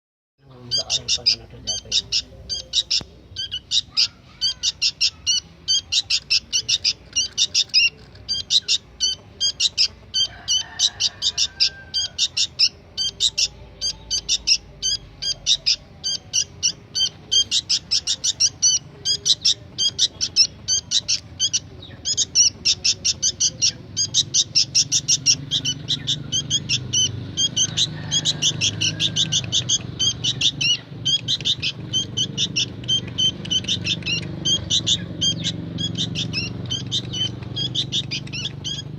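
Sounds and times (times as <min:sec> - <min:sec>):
bird chick chirping: 0:00.5 - 0:38.9.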